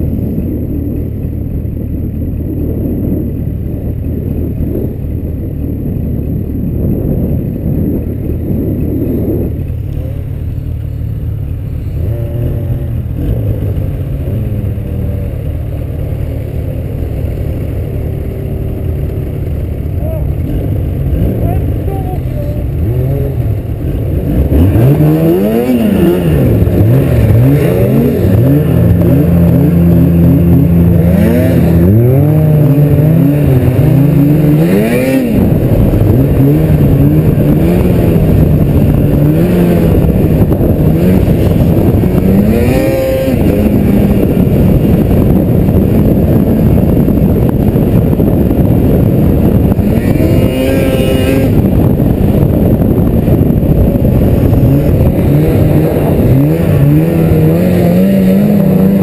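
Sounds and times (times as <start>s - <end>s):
snowmobile engines revving: 0.0s - 59.0s
wind on microphone: 0.0s - 59.0s.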